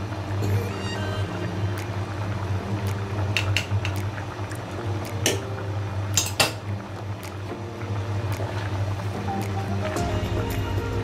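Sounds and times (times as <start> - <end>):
stew bubbling: 0.0 - 11.0.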